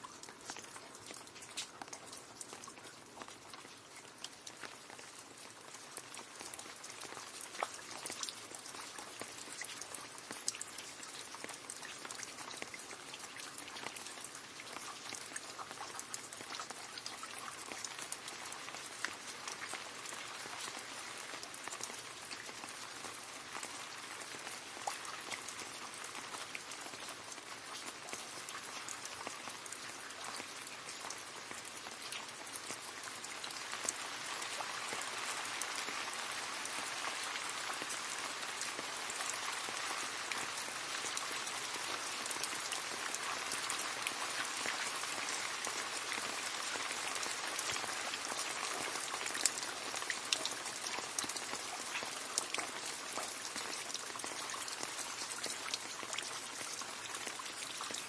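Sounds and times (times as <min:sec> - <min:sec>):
rain splashing into a puddle: 0:00.0 - 0:58.0
water drips: 0:00.0 - 0:58.0.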